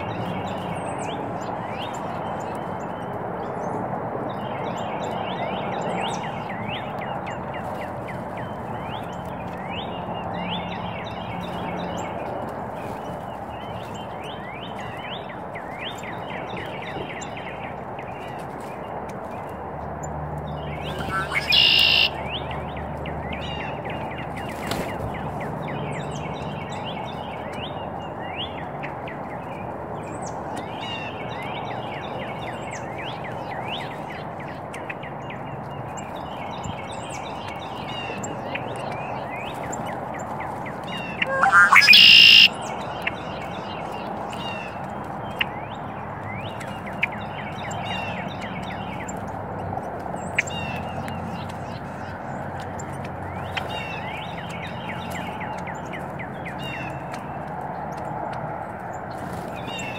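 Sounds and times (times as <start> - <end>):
outdoor background noise: 0.0 - 59.9
small birds chirping: 0.0 - 59.9.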